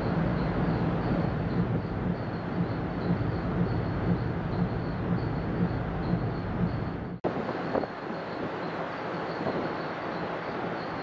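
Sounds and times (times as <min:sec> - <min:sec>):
pulsing machinery rumble: 0:00.0 - 0:11.0.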